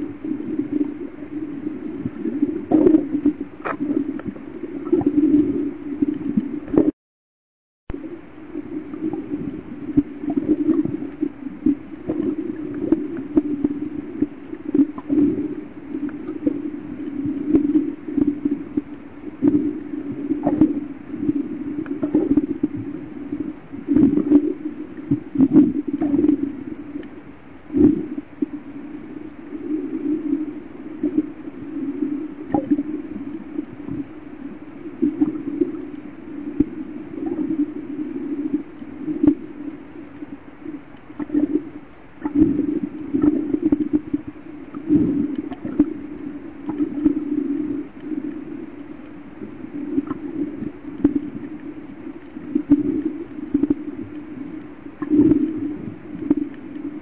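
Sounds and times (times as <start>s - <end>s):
underwater breathing and bubbles: 0.0s - 6.9s, 7.9s - 57.0s.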